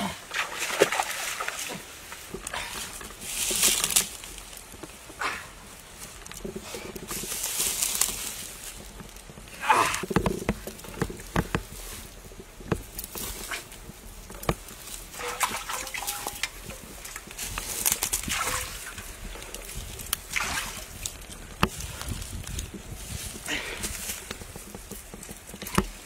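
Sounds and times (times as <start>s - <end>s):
straw rustling under feet: 0.3s - 26.0s
wood fire crackling: 2.0s - 26.0s.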